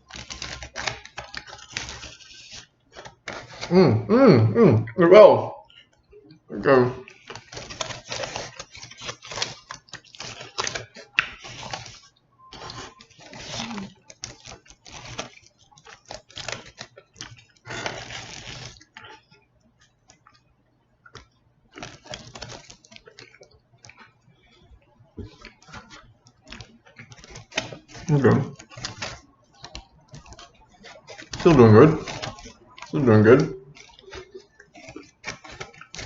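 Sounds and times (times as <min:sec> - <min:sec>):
person chewing food: 0:00.0 - 0:04.1, 0:05.6 - 0:36.0.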